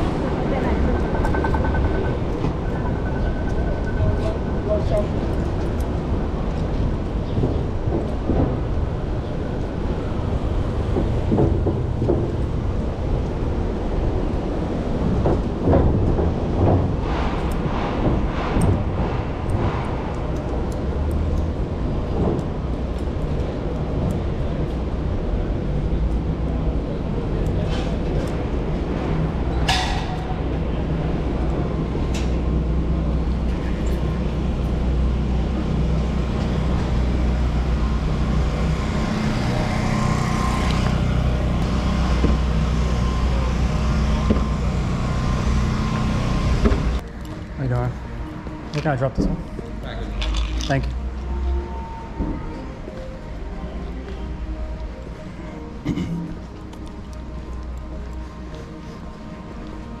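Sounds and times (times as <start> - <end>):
street traffic: 0.0 - 60.0.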